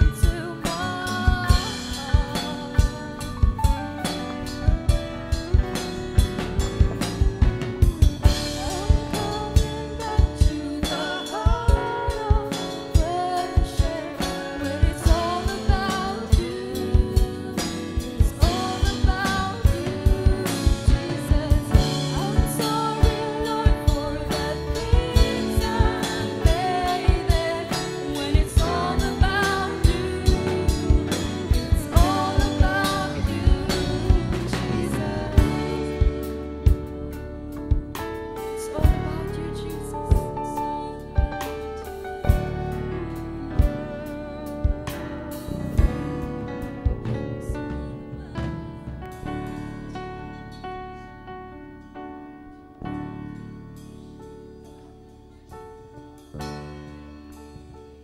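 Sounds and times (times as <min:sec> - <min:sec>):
drum kit steady beat: 0:00.0 - 0:50.1
lead singer: 0:00.0 - 0:51.0
bass guitar: 0:00.0 - 0:58.0
electric guitars: 0:00.0 - 0:58.0.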